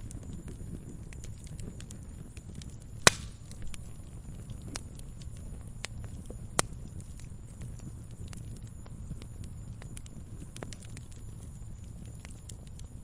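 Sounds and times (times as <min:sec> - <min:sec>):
sharp fire pops: 0:00.0 - 0:13.0
wood fire rumbling and crackling: 0:00.0 - 0:13.0.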